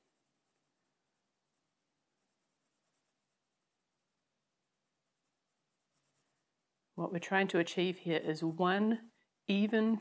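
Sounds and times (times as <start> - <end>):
pencil scratching on paper: 0.0 - 7.4, 8.0 - 9.5.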